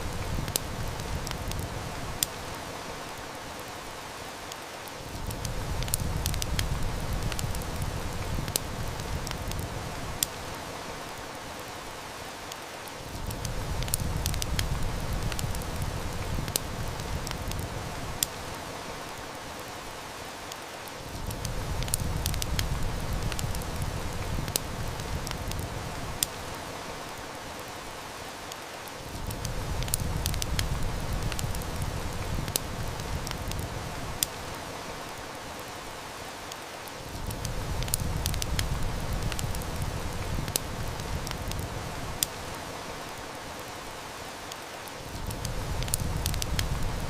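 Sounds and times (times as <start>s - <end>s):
fire snaps: 0.0s - 47.0s
rain hiss: 0.0s - 47.0s
wood fire crackling: 0.0s - 47.0s.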